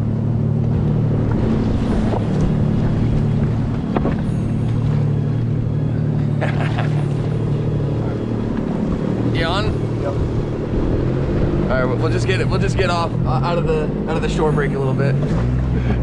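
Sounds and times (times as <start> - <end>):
jet ski engine running: 0.0 - 16.0.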